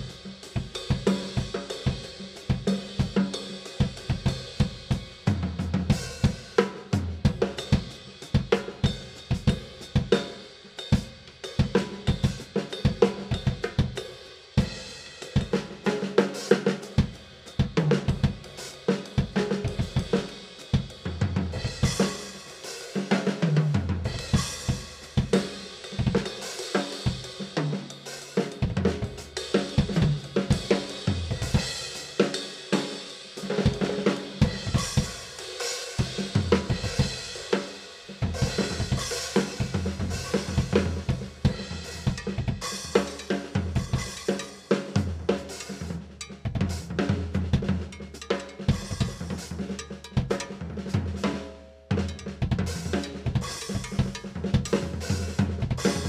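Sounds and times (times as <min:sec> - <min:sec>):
drum kit groove: 0:00.0 - 0:56.0.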